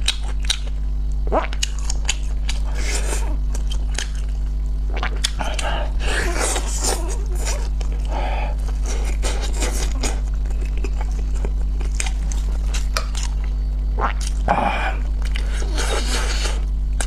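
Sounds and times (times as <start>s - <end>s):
chewing with wet smacks: 0.0s - 5.8s, 6.4s - 13.6s, 14.2s - 17.0s
steady low hum: 0.0s - 17.0s.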